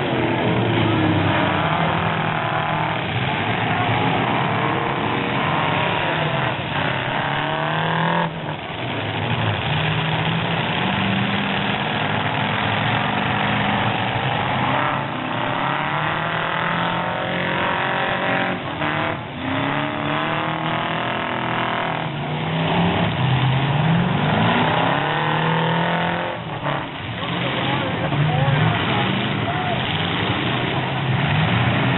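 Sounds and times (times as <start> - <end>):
truck engines revving: 0.0 - 31.9.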